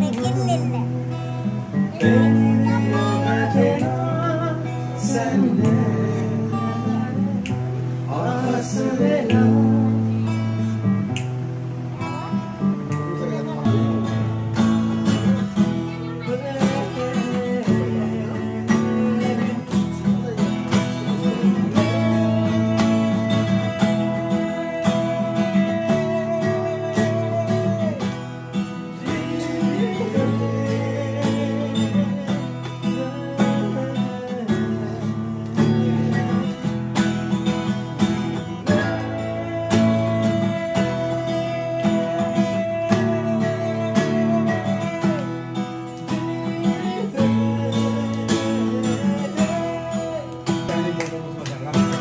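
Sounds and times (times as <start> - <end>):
man singing: 0.0 - 10.9, 12.9 - 52.0
acoustic guitar strumming: 0.0 - 52.0.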